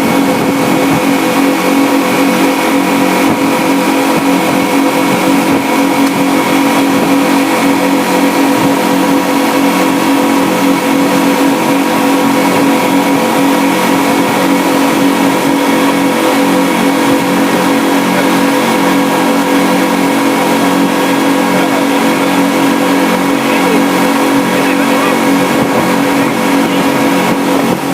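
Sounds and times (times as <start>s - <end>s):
engine droning steadily: 0.0s - 27.9s.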